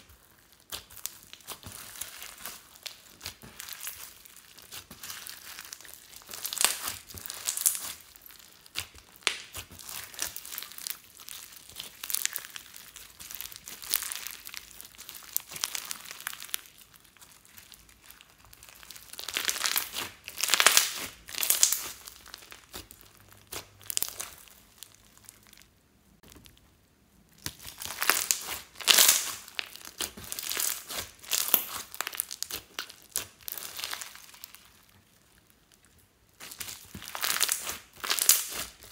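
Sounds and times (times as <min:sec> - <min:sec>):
slime crackling and popping: 0:00.0 - 0:38.9.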